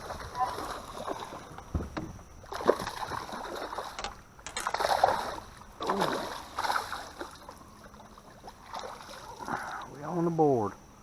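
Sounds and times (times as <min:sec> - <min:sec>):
water splashing around boat: 0:00.0 - 0:10.3.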